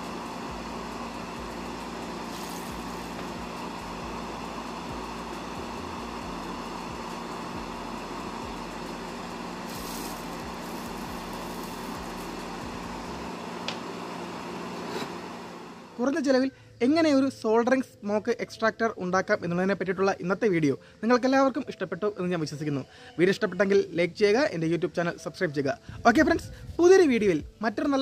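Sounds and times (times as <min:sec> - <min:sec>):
small cooling fan whirring: 0:00.0 - 0:28.0.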